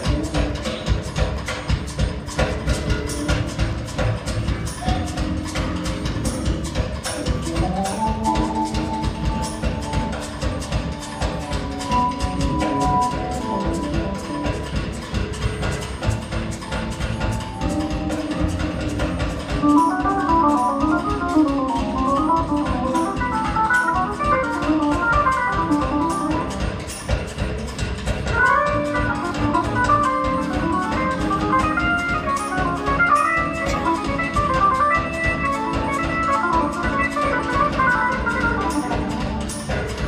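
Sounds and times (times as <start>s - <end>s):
bass: 0.0s - 40.0s
drum beat: 0.0s - 40.0s
organ keyboard solo: 4.7s - 27.0s, 28.3s - 40.0s.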